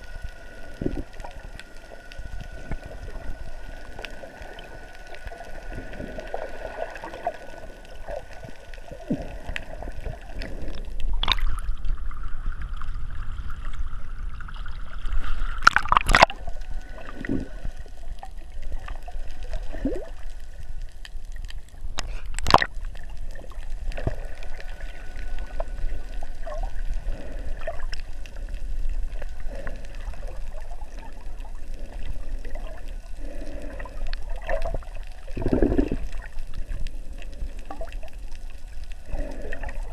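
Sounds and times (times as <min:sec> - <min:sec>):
muffled underwater gurgling: 0:00.0 - 0:39.9.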